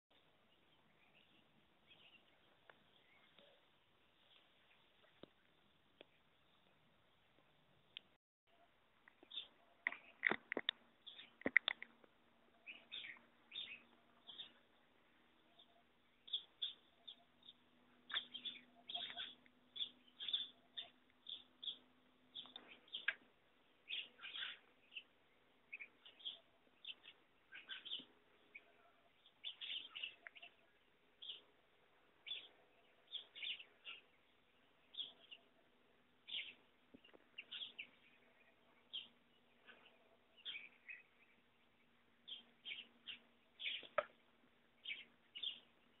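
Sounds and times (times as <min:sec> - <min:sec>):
faint steady hum: 0:00.1 - 0:46.0
small birds chirping: 0:00.1 - 0:46.0.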